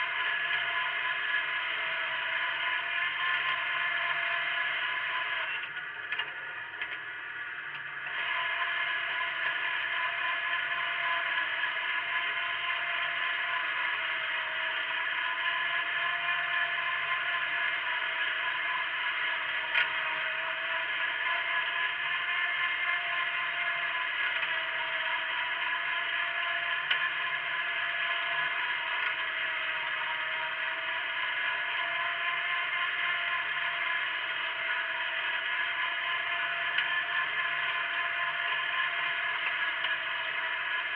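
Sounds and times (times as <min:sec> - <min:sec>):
garden tractor running under load: 0:00.0 - 0:40.9.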